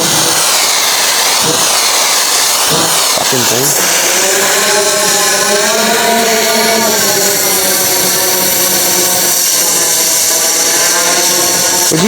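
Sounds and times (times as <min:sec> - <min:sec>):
power tool cutting steel: 0:00.0 - 0:12.0.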